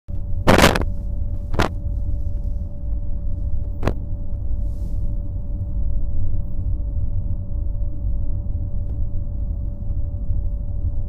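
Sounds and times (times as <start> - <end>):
faint hum: 0.1 - 11.0
vehicle rumble from inside: 0.1 - 11.0.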